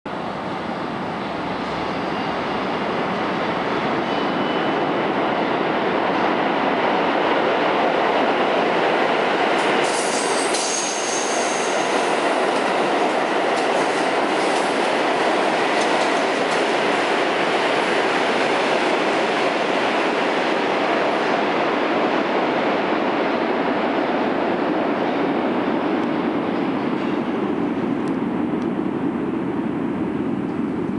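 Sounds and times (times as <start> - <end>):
subway train rumbling past: 0.1 - 30.9.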